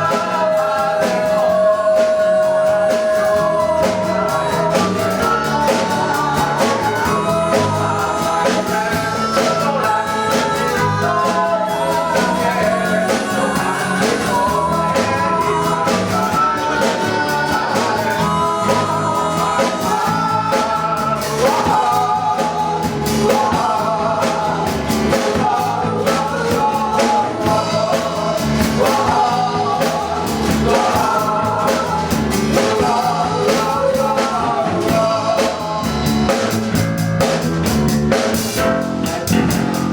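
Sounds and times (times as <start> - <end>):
drums: 0.0 - 39.9
guitar: 0.0 - 39.9
person singing: 0.0 - 39.9.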